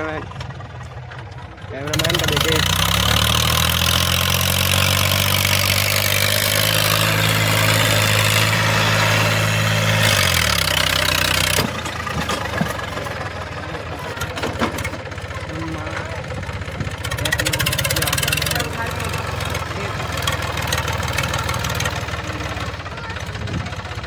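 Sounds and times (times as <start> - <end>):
diesel tractor engine revving: 0.0 - 24.0.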